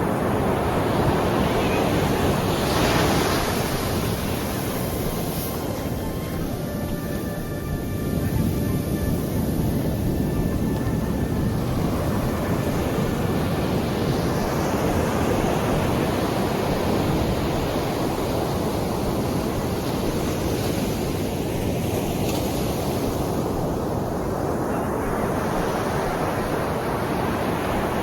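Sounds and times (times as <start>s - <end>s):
waves washing onto shore: 0.0s - 28.0s.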